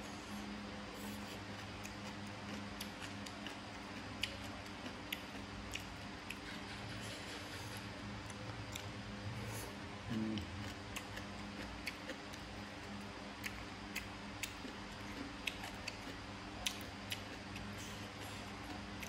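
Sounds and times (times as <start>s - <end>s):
person chewing food: 0.1s - 19.0s.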